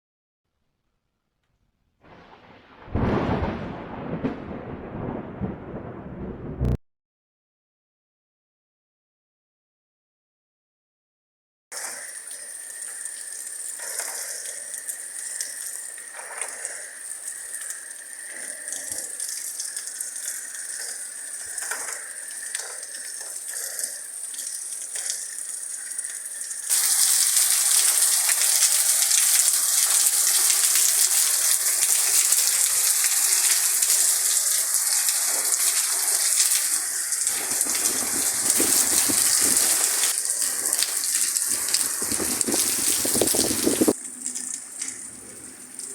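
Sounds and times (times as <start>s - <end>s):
heavy rain falling: 2.1s - 6.8s, 11.8s - 45.9s.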